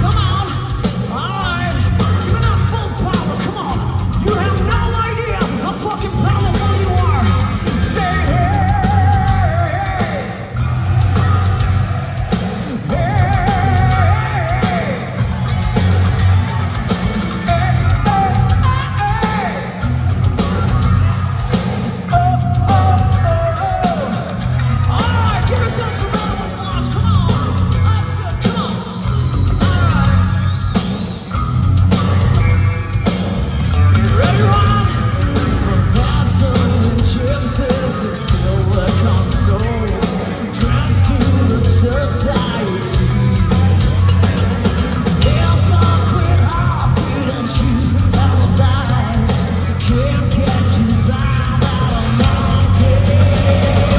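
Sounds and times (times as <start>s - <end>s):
person singing lead vocal: 0.0s - 31.3s, 33.1s - 44.2s, 45.1s - 53.9s
distorted electric guitars: 0.0s - 53.9s
drums and bass pounding: 0.0s - 53.9s.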